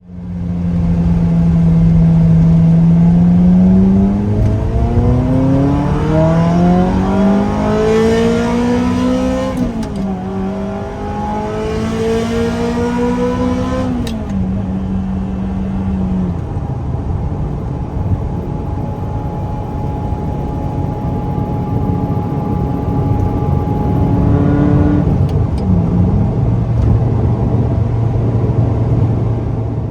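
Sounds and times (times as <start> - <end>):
car engine accelerating: 0.0 - 29.9.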